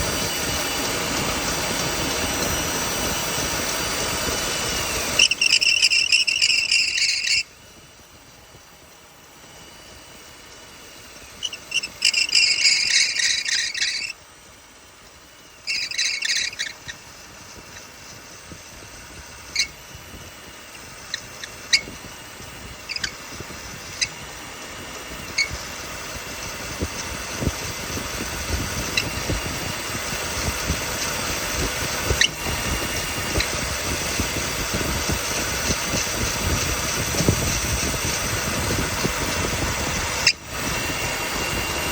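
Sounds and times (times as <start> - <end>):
engine belt squealing: 0.0 - 41.9
engine whine and hiss: 0.0 - 41.9.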